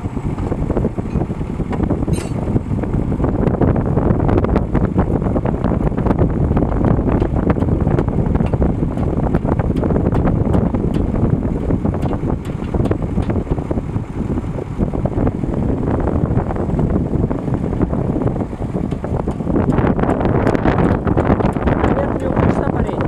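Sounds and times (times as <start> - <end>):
tractor running: 0.0 - 23.0.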